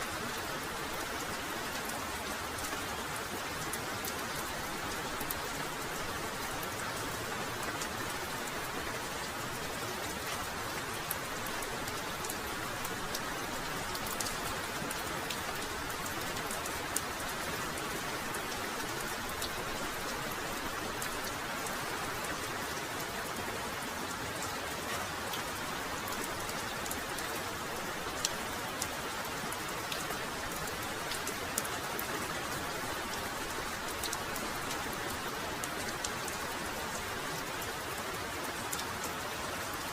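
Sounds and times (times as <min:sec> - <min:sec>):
heavy rain: 0:00.0 - 0:39.9
raindrops ticking close by: 0:00.0 - 0:39.9.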